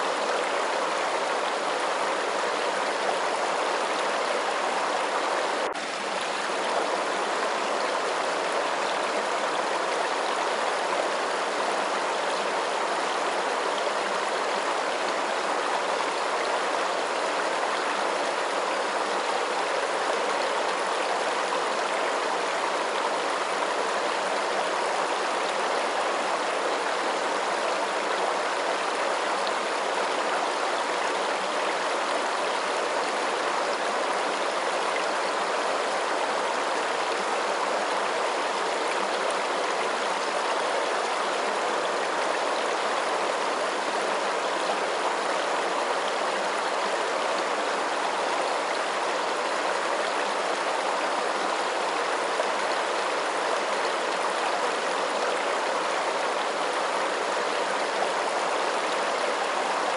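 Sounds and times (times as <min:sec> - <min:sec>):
rush of flowing water: 0:00.0 - 0:59.9.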